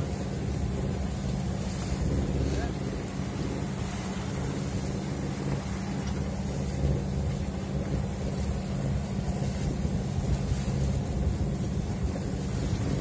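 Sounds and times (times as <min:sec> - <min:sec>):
steady low hum: 0:00.0 - 0:13.0
water rushing along hull: 0:00.0 - 0:13.0
wind buffeting microphone: 0:00.0 - 0:13.0.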